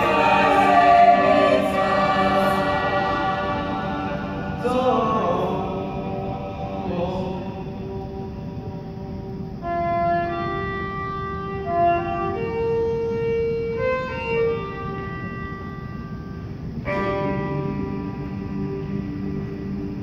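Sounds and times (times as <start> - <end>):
choir singing a sustained chord: 0.0 - 10.5, 13.7 - 20.0.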